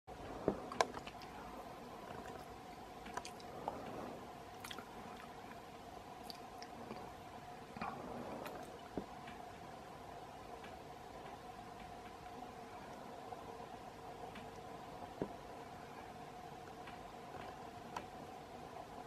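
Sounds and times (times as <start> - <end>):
faint steady hum: 0.1 - 19.0.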